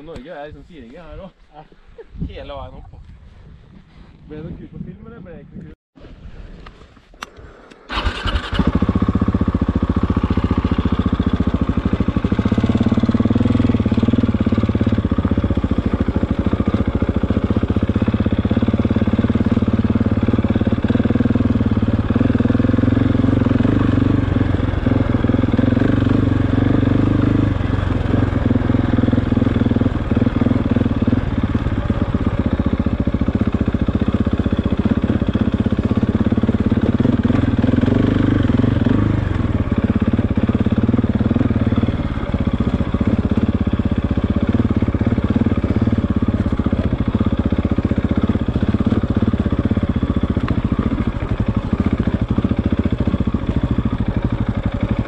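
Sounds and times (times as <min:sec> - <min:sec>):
motorcycle engine running: 0:07.9 - 0:55.0.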